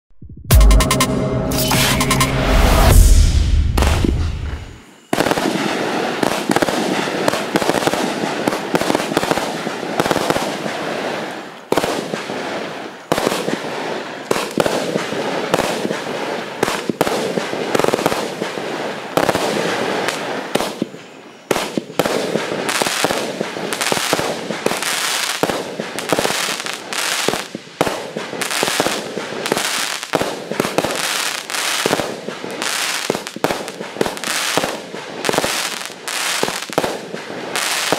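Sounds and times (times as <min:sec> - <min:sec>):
fireworks shots and bursts: 0:00.3 - 0:37.9.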